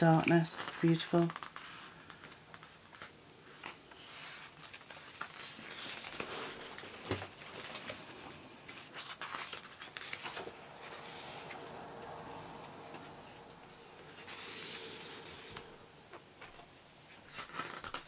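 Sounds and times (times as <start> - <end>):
glossy pages rustling: 0.2 - 18.0.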